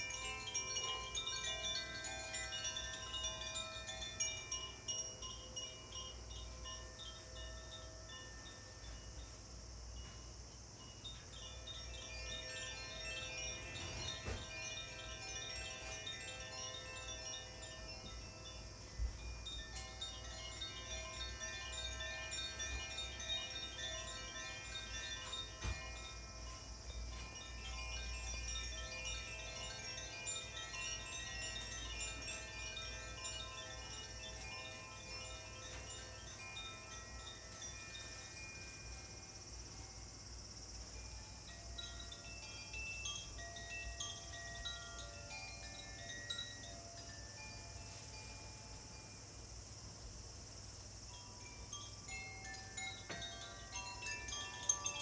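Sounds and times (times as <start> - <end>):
tuned chimes ringing: 0.0 - 9.3, 10.9 - 39.2, 40.8 - 49.2, 51.1 - 55.0.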